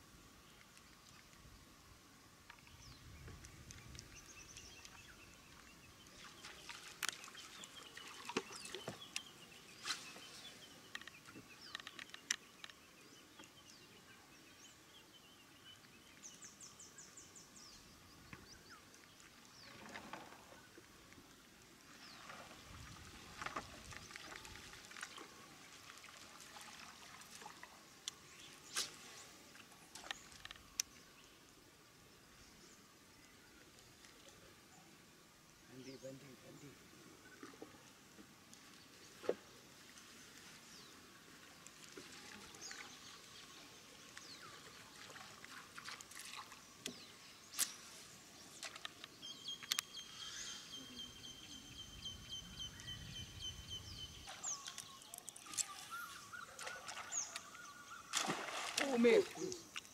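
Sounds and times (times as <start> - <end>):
wild birds chirping: 0.1 - 59.9.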